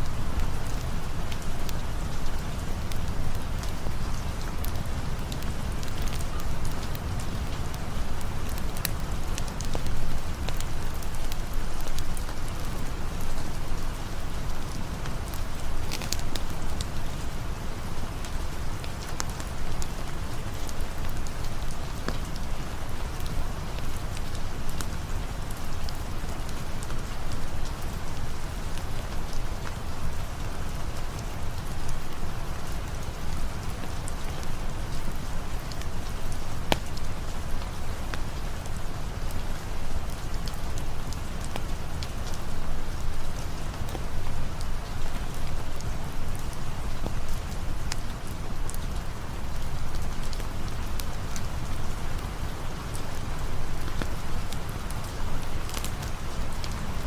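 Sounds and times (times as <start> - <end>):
sharp crackles and drip clicks: 0.0 - 57.0
steady rain hiss: 0.0 - 57.0.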